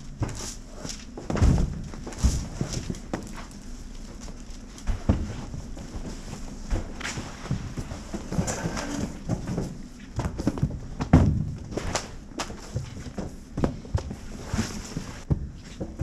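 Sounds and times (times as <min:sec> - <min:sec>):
knocks and thumps: 0:01.1 - 0:03.5, 0:04.8 - 0:16.0.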